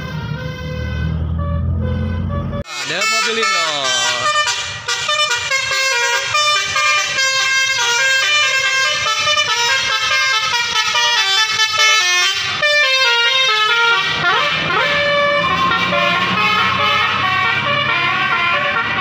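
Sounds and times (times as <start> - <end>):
multi-tone bus horn playing a tune: 0.0 - 19.0.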